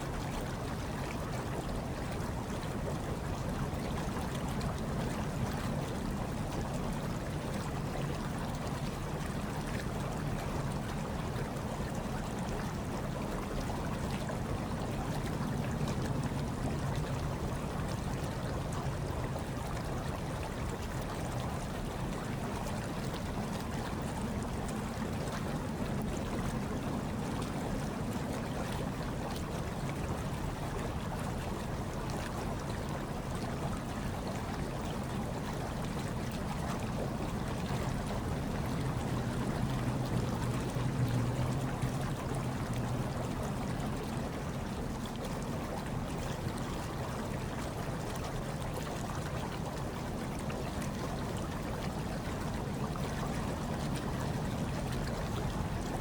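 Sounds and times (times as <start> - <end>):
hot tub water bubbling: 0.0 - 56.0.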